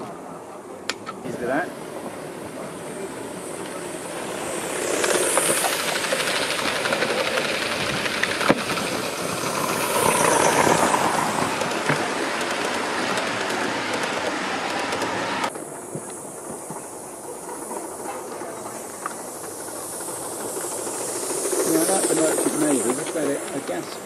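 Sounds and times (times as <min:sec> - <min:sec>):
steam exhaust hissing: 0:00.0 - 0:24.0
wheels clicking over track: 0:00.9 - 0:24.0.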